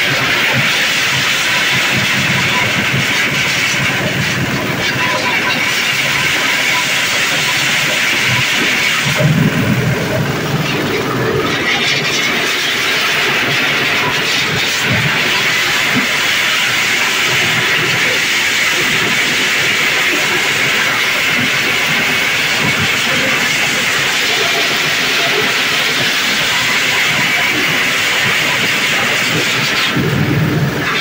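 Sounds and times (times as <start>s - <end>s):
machine rushing hiss: 0.0s - 30.9s.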